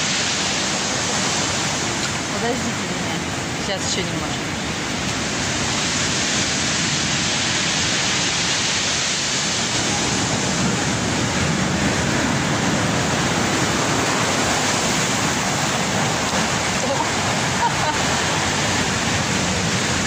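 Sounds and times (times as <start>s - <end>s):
heavy waves breaking: 0.0s - 20.0s.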